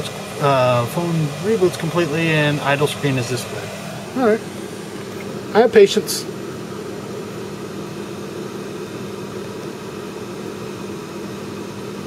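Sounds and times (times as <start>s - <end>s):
room hum with even hiss: 0.0s - 12.0s.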